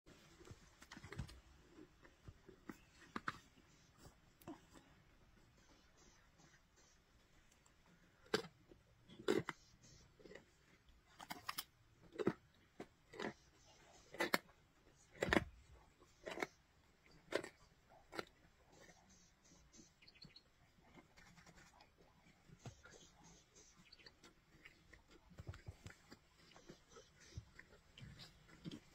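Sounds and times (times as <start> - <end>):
lions crunching bone: 0.2 - 5.1, 7.6 - 19.6, 20.7 - 28.9.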